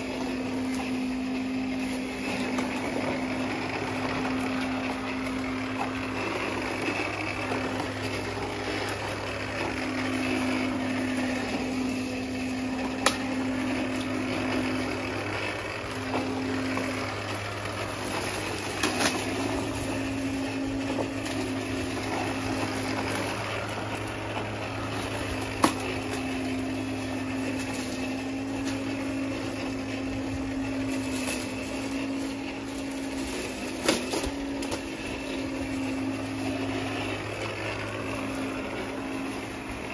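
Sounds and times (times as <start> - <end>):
electric lawn mower cutting grass: 0.0 - 39.9.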